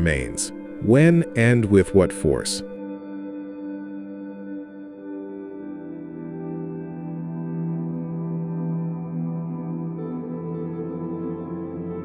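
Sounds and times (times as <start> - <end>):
ambient drone music: 0.0 - 12.0.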